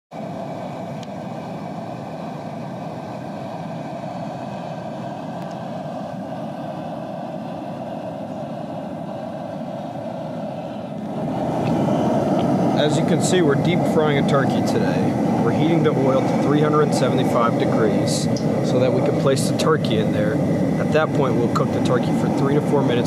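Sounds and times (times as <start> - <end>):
propane burner flame rushing: 0.1 - 23.0.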